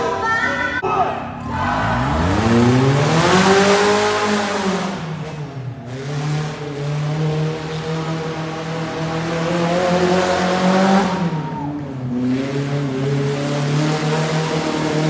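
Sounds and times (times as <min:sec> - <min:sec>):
small engine revving: 0:01.4 - 0:15.0.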